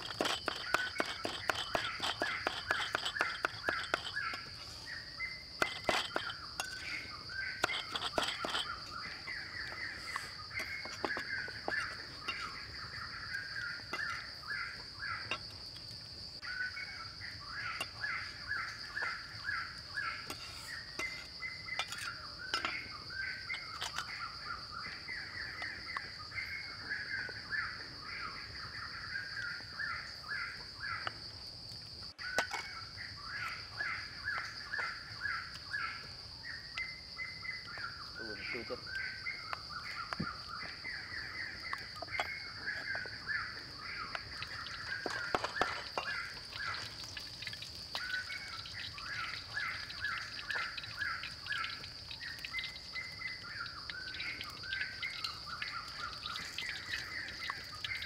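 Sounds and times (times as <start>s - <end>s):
birds calling: 0.0s - 31.2s, 32.1s - 58.0s
insect drone: 0.0s - 58.0s.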